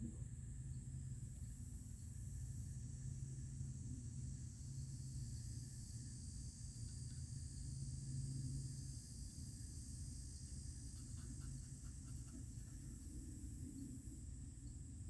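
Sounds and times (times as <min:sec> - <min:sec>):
insect chirring: 0:02.0 - 0:15.0.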